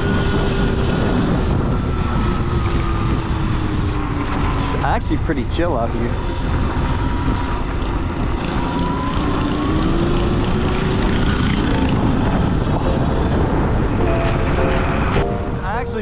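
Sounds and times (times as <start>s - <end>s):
electric motor whine: 0.0s - 4.9s, 5.9s - 15.6s
wind rushing over microphone: 0.0s - 16.0s.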